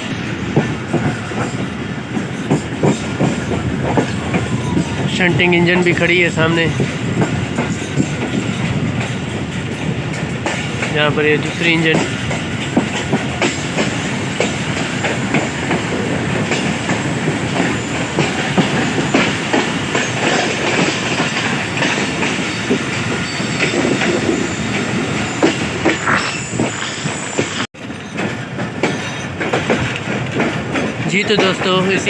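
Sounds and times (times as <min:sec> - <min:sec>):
steady train rumble: 0:00.0 - 0:32.0
train wheels clattering: 0:00.0 - 0:32.0.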